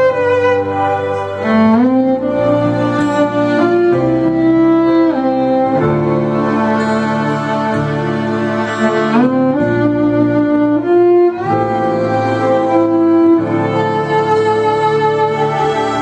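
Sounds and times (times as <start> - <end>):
low string accompaniment: 0.0 - 16.0
slow fiddle melody: 0.0 - 16.0.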